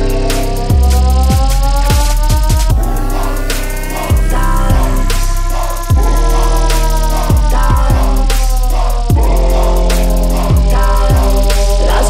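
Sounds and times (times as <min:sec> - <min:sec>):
deep falling bass drops: 0:00.0 - 0:12.0
electronic dance music: 0:00.0 - 0:12.0.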